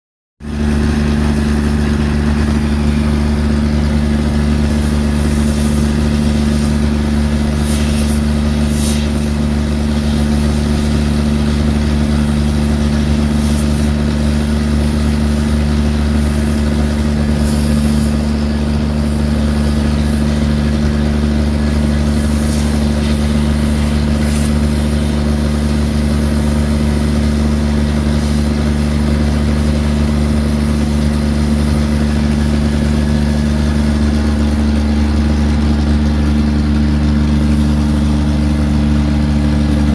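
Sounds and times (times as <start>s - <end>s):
diesel engine running: 0.4s - 39.9s.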